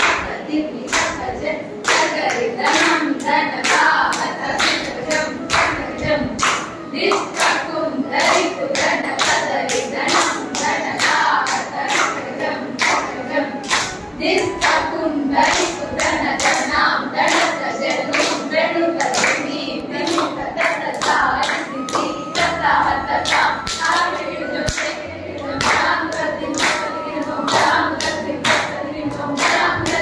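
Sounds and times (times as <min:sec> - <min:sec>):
group clapping a steady beat: 0:00.0 - 0:30.0
voices chanting rhythmic syllables: 0:00.0 - 0:30.0.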